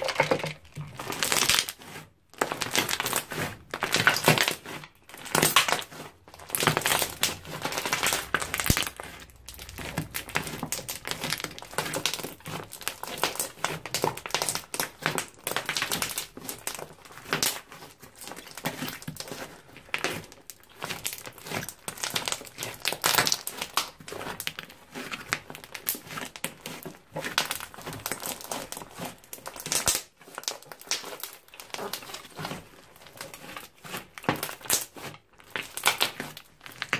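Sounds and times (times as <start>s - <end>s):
slime crackling and popping: 0.0s - 36.9s.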